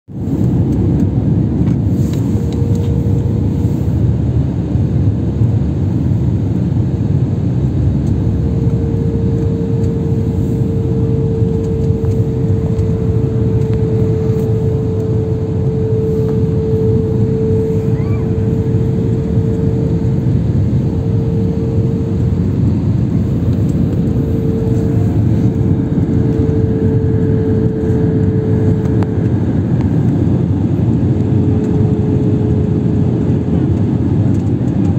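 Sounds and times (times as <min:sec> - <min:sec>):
jet engine drone: 0:00.1 - 0:34.9
steady tone: 0:00.6 - 0:05.2, 0:07.3 - 0:33.0.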